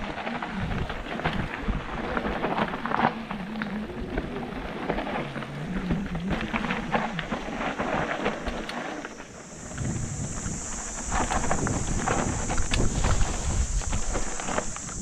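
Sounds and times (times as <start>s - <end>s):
bike knocking and rattling: 0.0s - 15.0s
tyres rumbling over dirt: 0.0s - 15.0s.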